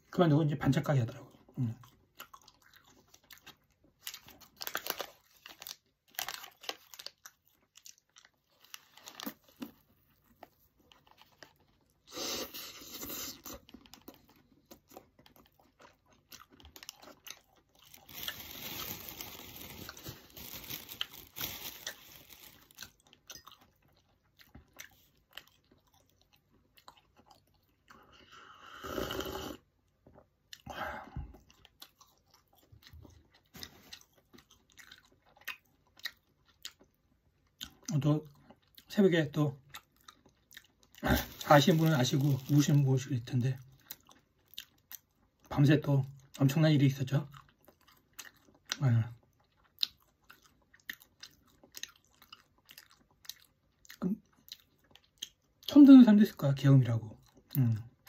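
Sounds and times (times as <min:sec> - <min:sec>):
person chewing crunchy sandwich: 0:01.3 - 0:38.9, 0:39.6 - 0:42.9, 0:43.6 - 0:45.5, 0:47.3 - 0:55.7.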